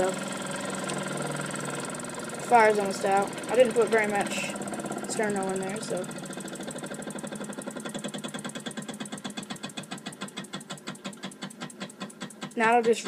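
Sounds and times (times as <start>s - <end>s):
toy steam engine chuffing: 0.0s - 13.0s.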